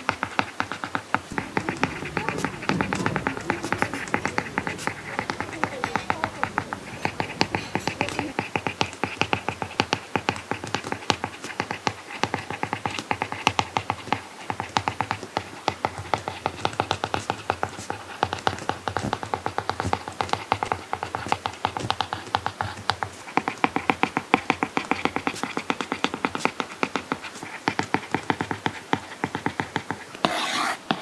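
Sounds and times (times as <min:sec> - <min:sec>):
stylus tapping and scratching screen: 0:00.0 - 0:31.0.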